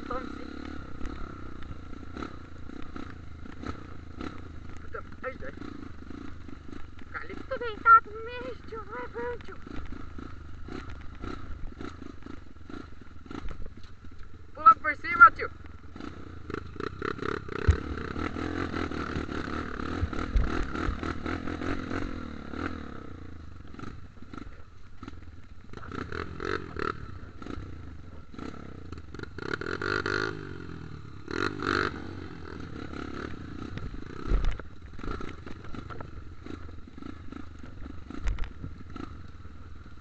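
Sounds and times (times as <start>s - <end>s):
engine revs: 0.0s - 13.5s, 14.6s - 39.3s
dirt bike engines running: 0.0s - 40.0s.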